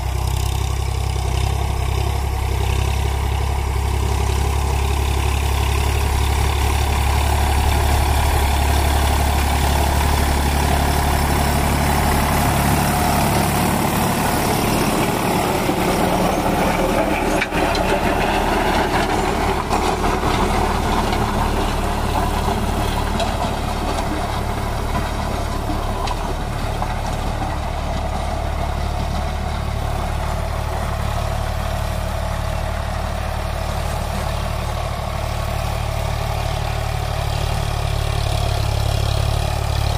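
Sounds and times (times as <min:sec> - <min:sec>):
diesel tractor engine under load: 0:00.0 - 0:39.9
rotavator blades churning soil: 0:00.6 - 0:39.9.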